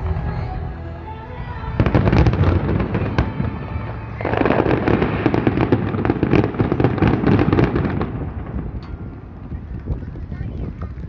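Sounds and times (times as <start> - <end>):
fireworks bursts and crackling: 1.6 - 11.0.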